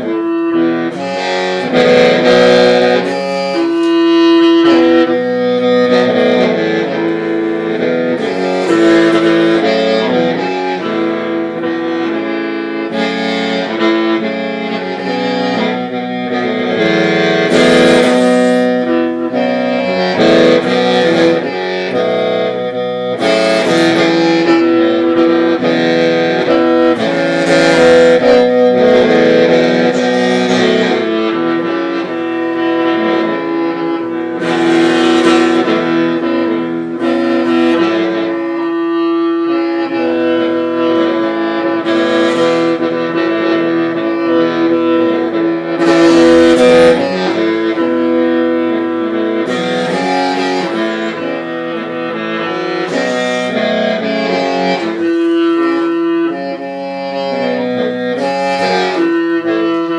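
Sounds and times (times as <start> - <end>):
mouth organ playing chords: 0.0 - 59.9.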